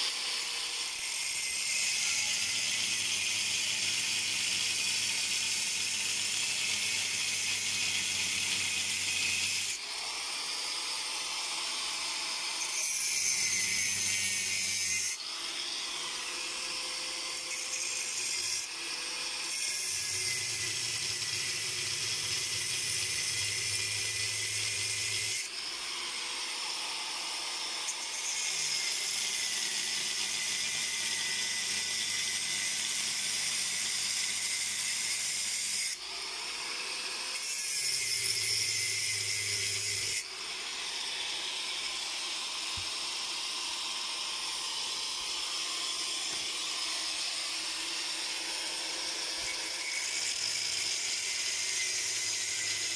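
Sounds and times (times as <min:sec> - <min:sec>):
angle grinder grinding steel: 0:00.0 - 0:32.7, 0:33.4 - 0:52.9.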